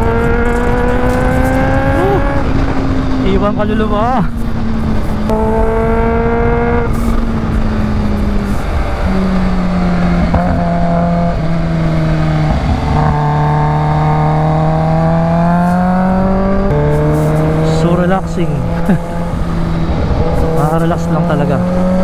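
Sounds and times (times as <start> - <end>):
motorcycle engine running: 0.0 - 22.0
wind rushing: 0.0 - 22.0.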